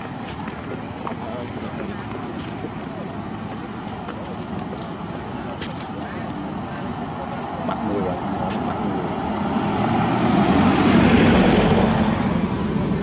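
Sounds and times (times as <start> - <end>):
passing motor vehicle engine: 1.0 - 13.0.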